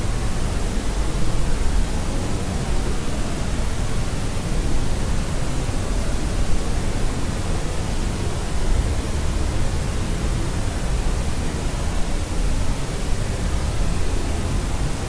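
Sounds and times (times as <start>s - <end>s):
steady white noise hiss: 0.0s - 15.0s.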